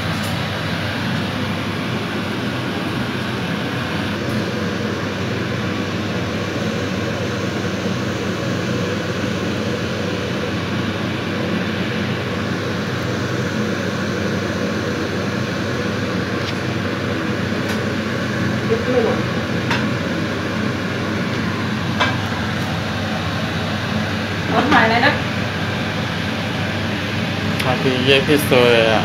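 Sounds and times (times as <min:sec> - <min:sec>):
fan whooshing hum: 0:00.0 - 0:29.0.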